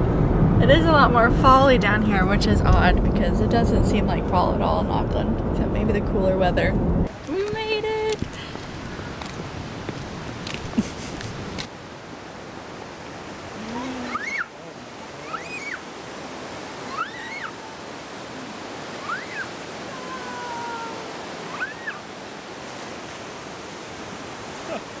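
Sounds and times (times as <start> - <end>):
whitewater roaring: 0.0 - 25.0.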